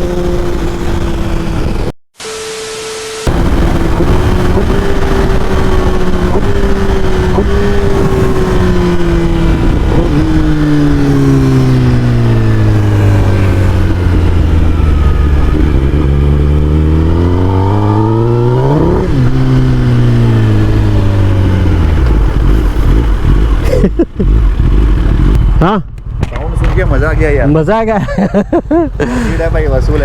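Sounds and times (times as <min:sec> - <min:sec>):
motorcycle engine slowing: 0:00.0 - 0:02.0, 0:03.1 - 0:30.0
motorcycle engine revving: 0:00.0 - 0:27.6.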